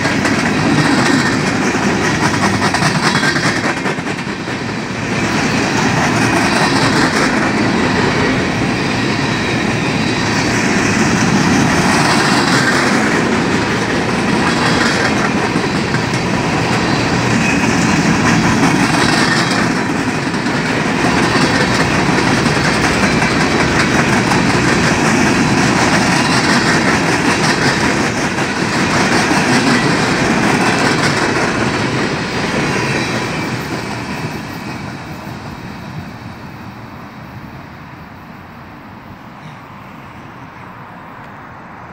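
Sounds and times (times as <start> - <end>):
train wheels rolling on rails: 0.0 - 41.9.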